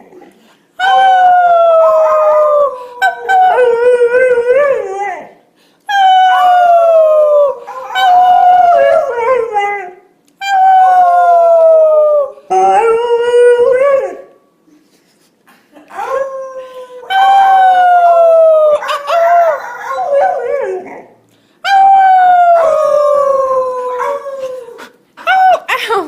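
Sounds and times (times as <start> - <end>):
puppy howling: 0.8 - 5.3, 5.9 - 14.2, 15.9 - 25.7.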